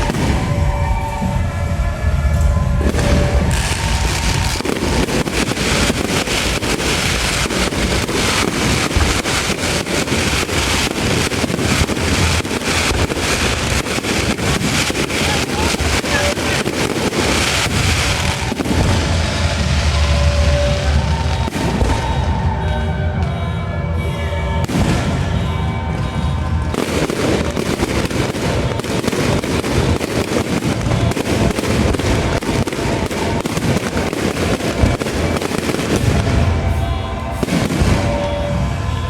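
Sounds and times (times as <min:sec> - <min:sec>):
faint procession music: 0:00.0 - 0:39.0
firecrackers crackling: 0:00.0 - 0:39.0.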